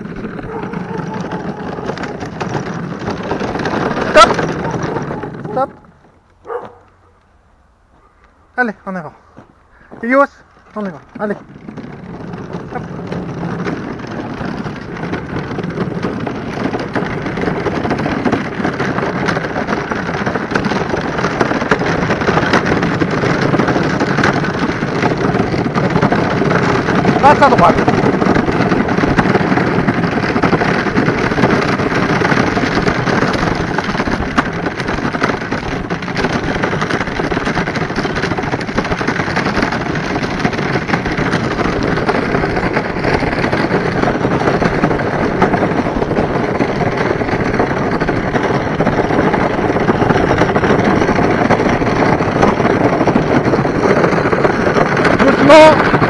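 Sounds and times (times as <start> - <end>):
cart wheels rattling on asphalt: 0.0 - 56.0.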